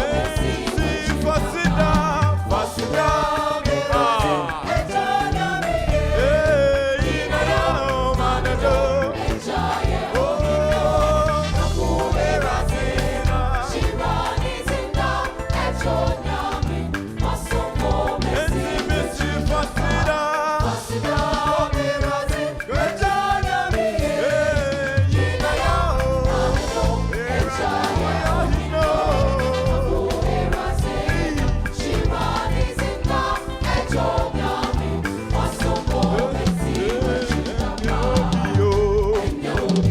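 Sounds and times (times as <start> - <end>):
band with steady beat: 0.0 - 39.9
voices singing together: 0.0 - 39.9.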